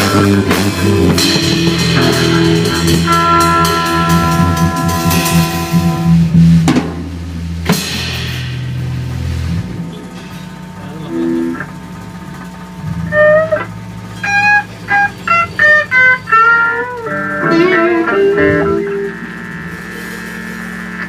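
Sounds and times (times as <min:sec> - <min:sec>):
guitar melody: 0:00.0 - 0:21.0
sustained low backing: 0:00.0 - 0:21.0.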